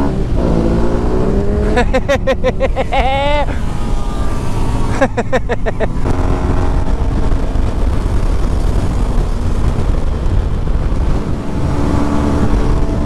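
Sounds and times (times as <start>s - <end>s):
motorcycle engine cruising: 0.0s - 13.0s
wind on microphone: 0.0s - 13.0s.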